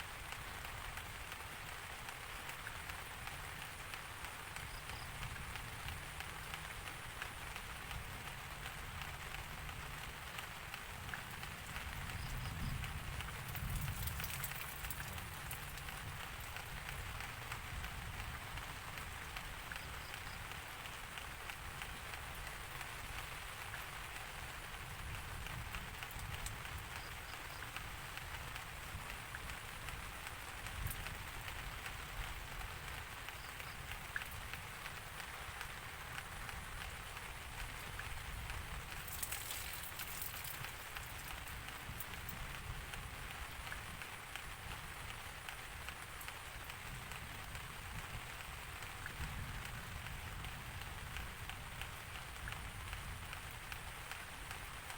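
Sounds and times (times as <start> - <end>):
rain patter: 0.0 - 54.9.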